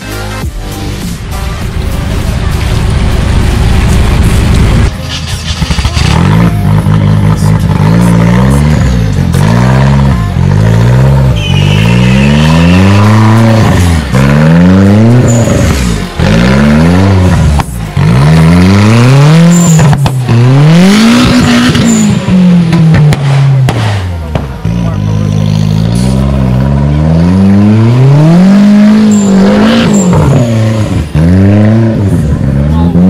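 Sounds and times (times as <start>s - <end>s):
buggy engine revving hard: 5.6s - 33.0s.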